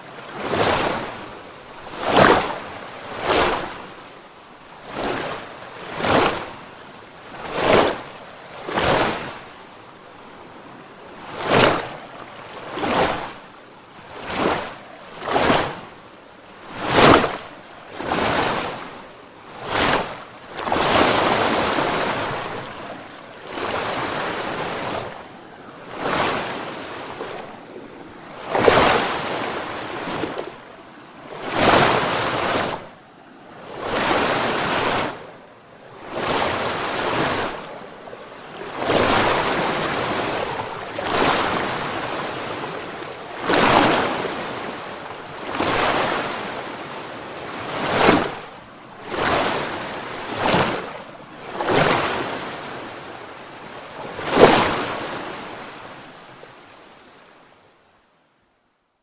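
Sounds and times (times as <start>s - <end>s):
water surging in swells: 0.0s - 57.9s.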